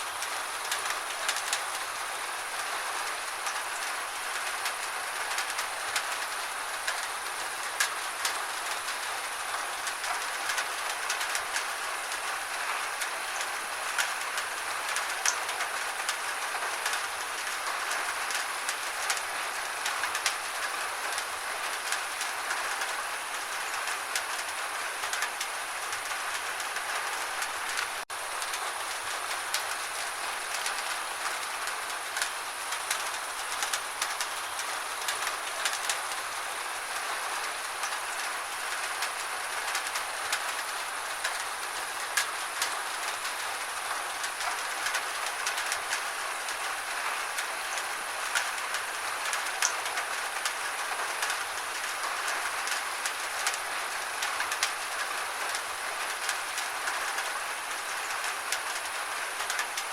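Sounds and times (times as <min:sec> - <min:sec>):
gentle rain hiss: 0:00.0 - 0:59.9
raindrops ticking: 0:00.0 - 0:59.9.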